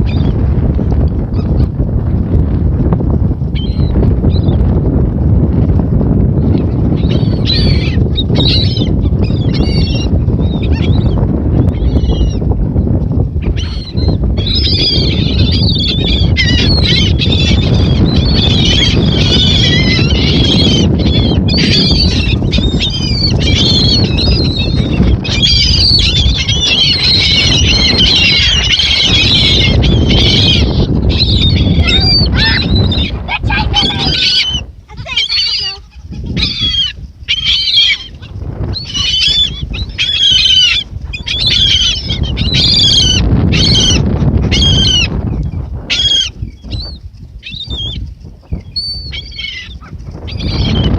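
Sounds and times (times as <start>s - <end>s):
flock of birds squawking: 7.0s - 12.4s, 13.4s - 45.2s, 45.9s - 48.0s, 48.8s - 50.9s.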